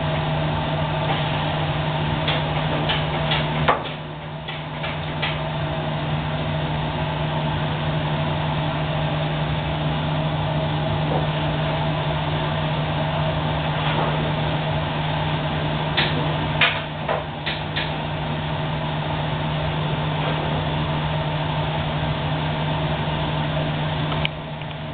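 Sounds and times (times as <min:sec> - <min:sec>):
welding machine humming: 0:00.0 - 0:24.9.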